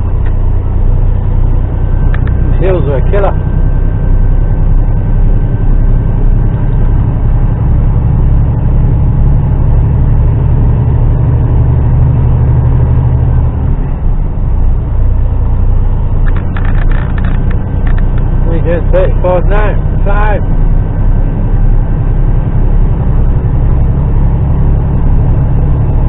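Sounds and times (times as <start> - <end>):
lorry engine droning under load: 0.0 - 26.0.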